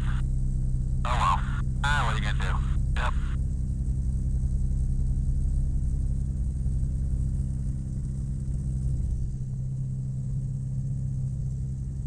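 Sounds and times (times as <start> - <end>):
ultralight aircraft engine idling: 0.0 - 12.0.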